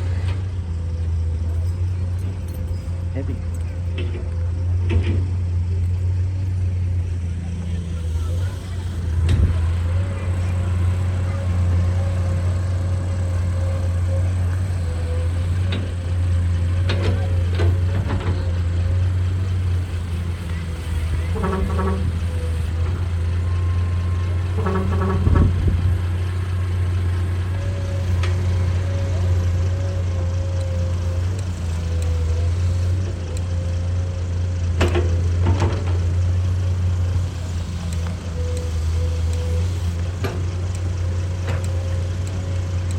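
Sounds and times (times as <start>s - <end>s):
excavator engine droning: 0.0s - 42.9s.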